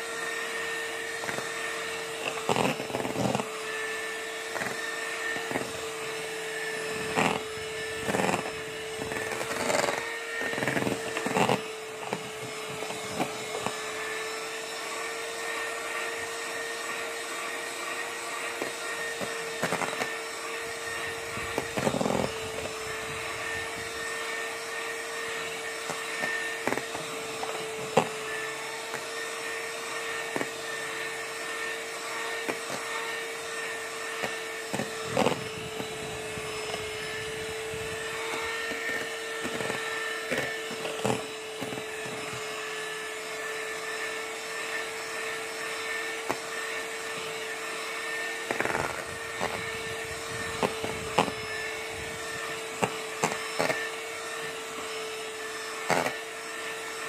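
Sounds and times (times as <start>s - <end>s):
electric hand mixer whining: 0.0s - 57.0s.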